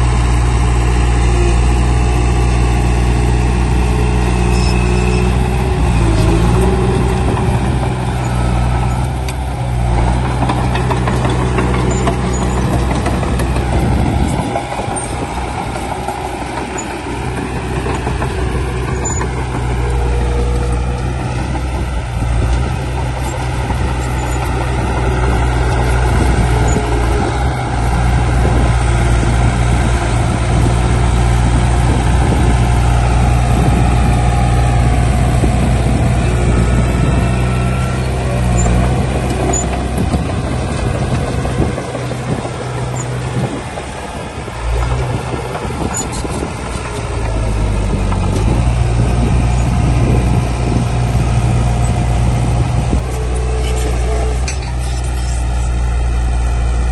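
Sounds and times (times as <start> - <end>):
heavy diesel machinery running: 0.0 - 56.9.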